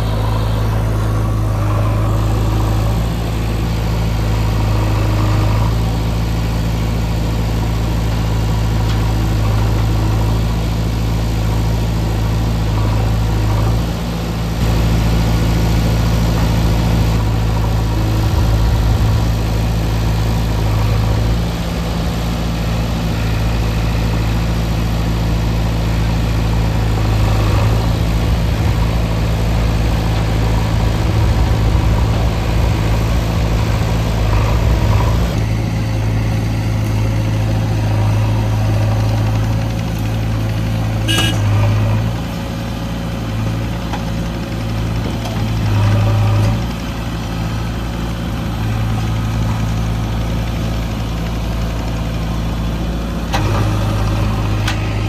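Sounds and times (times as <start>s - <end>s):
diesel machinery engines running: 0.0s - 55.0s.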